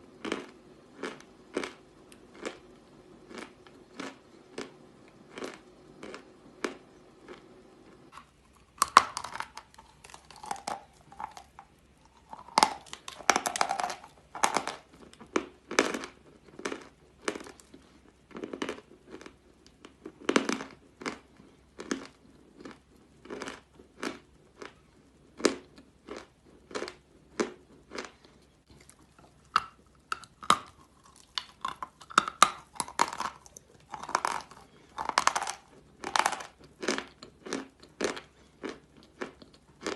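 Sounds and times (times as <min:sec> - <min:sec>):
chalk crunching while chewed: 0:03.3 - 0:07.5, 0:08.1 - 0:24.8, 0:25.4 - 0:39.9.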